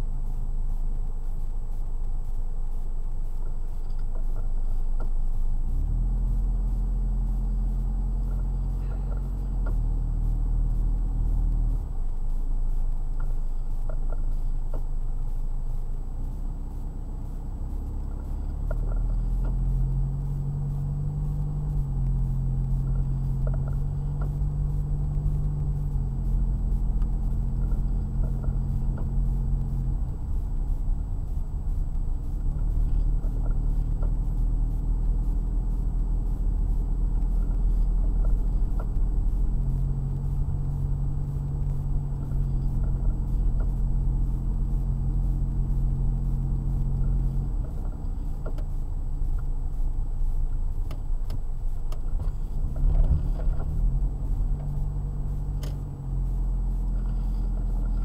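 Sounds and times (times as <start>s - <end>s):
car engine hum: 0.0s - 58.0s
road rumble inside car: 0.0s - 58.0s.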